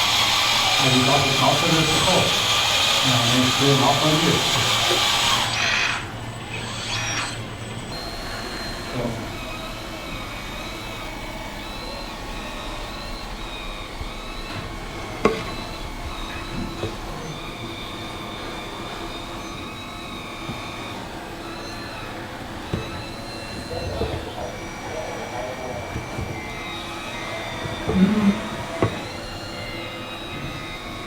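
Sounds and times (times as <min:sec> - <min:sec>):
high-pitched electric motor whine: 0:00.0 - 0:31.0.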